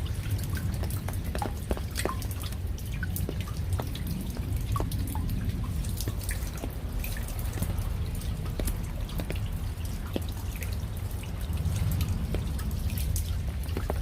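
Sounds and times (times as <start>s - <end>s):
low steady rumble: 0.0s - 14.0s
raindrops dripping and tapping: 0.0s - 14.0s.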